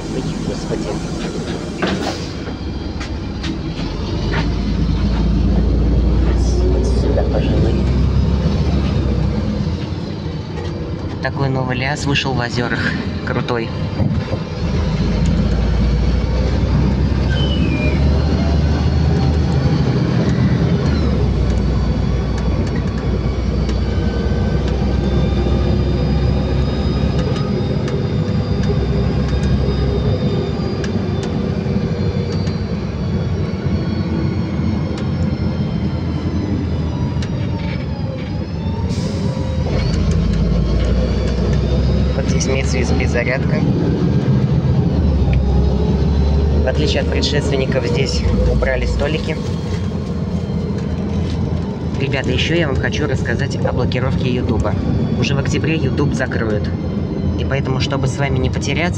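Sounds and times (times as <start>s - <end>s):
bus drivetrain rumble: 0.0s - 58.9s
road noise: 0.0s - 58.9s
whining tones: 0.0s - 58.9s.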